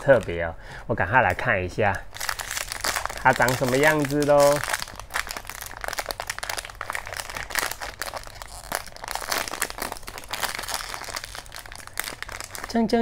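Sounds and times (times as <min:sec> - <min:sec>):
foil bag crinkling: 0:00.0 - 0:00.4, 0:02.1 - 0:13.0.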